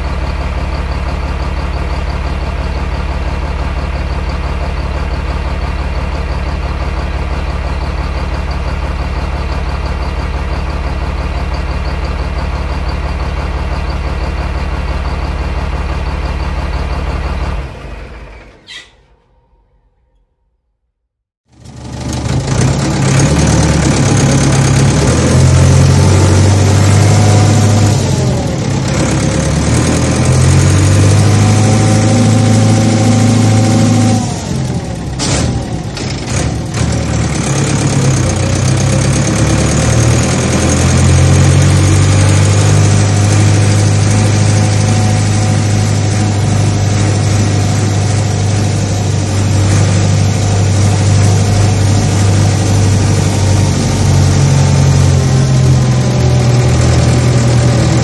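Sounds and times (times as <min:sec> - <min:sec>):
large engine running: 0:00.0 - 0:20.0, 0:21.5 - 0:58.0.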